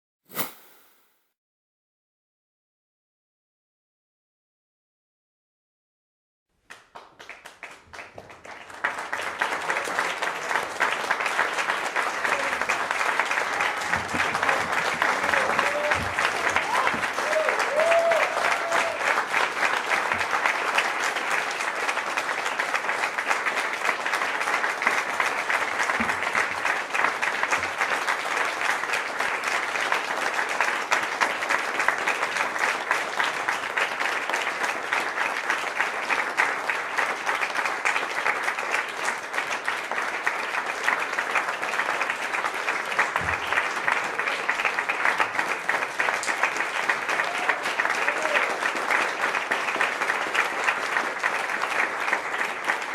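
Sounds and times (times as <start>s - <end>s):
crowd applauding: 6.7s - 52.9s.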